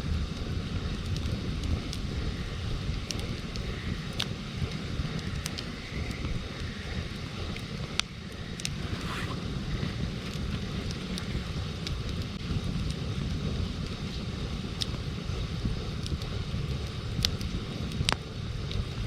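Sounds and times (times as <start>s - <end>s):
campfire crackling and popping: 0.0s - 19.0s
wind rumbling on microphone: 0.0s - 19.0s.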